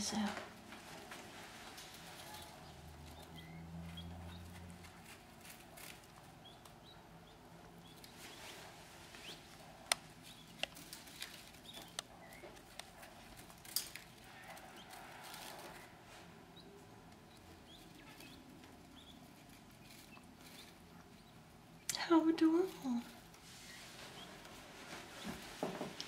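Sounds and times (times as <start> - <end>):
chicks peeping: 0.8 - 26.0.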